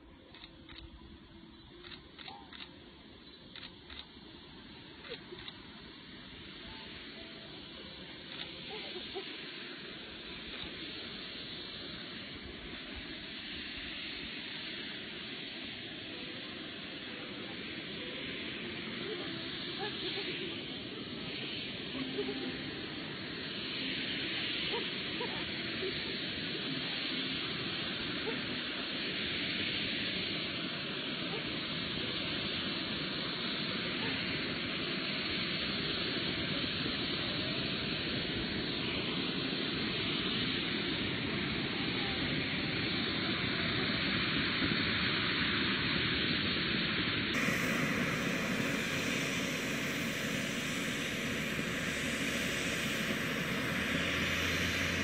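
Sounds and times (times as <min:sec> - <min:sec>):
firework fountains hissing: 0:00.0 - 0:55.0.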